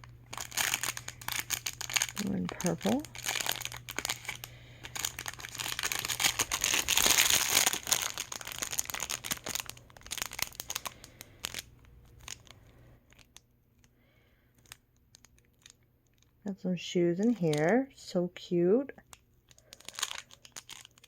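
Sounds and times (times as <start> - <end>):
plastic packaging crinkling: 0.0 - 16.4, 17.2 - 18.0, 19.0 - 21.0.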